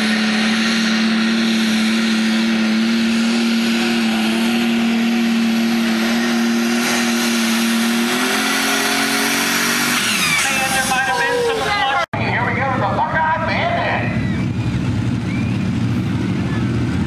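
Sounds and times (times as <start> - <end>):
tractor engine at full power: 0.0 - 17.0.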